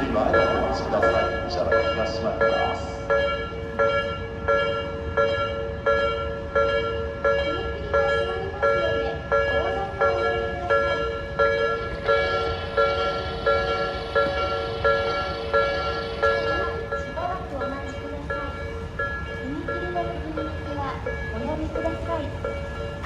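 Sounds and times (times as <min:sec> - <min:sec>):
level crossing bell clanging: 0:00.0 - 0:23.0.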